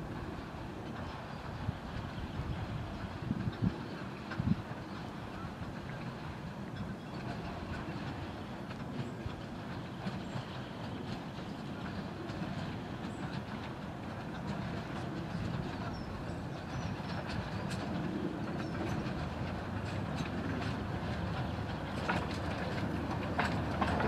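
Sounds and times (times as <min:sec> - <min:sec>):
steam locomotive working a train: 0:00.0 - 0:24.0.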